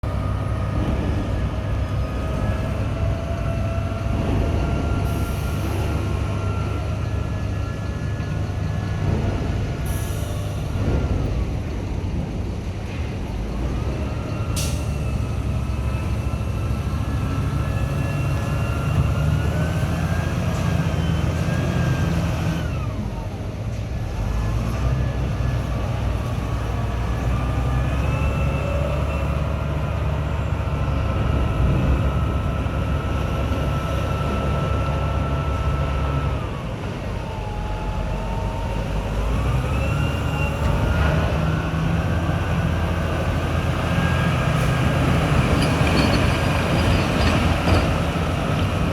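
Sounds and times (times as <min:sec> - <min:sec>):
diesel engine revving with whine: 0:00.0 - 0:11.1, 0:13.5 - 0:48.9.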